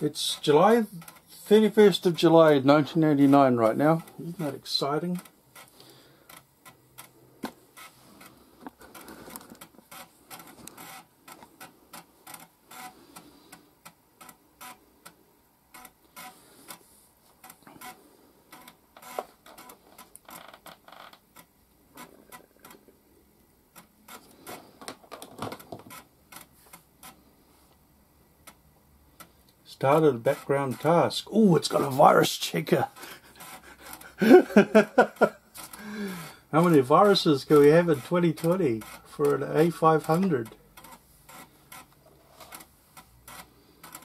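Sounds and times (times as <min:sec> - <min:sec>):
floppy drive clicking and buzzing: 0:00.0 - 0:32.2, 0:32.8 - 0:44.0.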